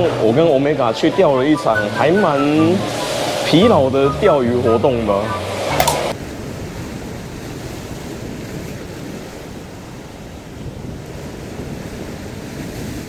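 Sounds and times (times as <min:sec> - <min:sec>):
sea waves breaking on rocks: 0:00.0 - 0:13.0
wind buffeting microphone: 0:00.0 - 0:13.0.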